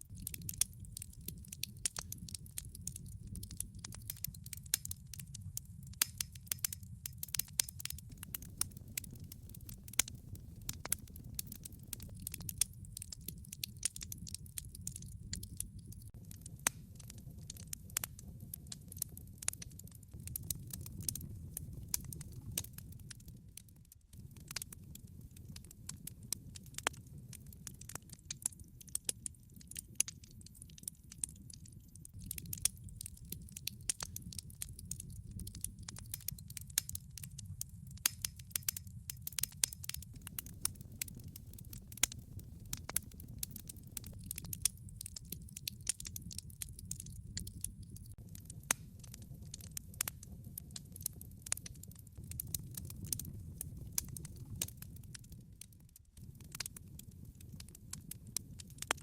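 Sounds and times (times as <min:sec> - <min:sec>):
log fire crackling and popping: 0:00.0 - 0:59.0.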